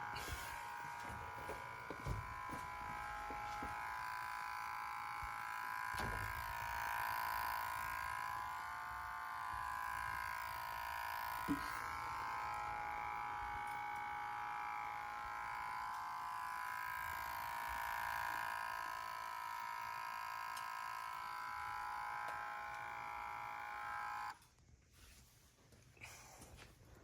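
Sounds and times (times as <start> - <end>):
high-pitched buzzing whine: 0.0 - 24.4.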